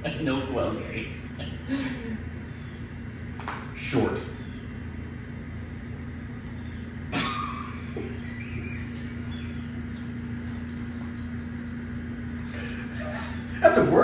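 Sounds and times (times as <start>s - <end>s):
low background rumble: 0.0s - 14.0s
low hum: 0.0s - 14.0s.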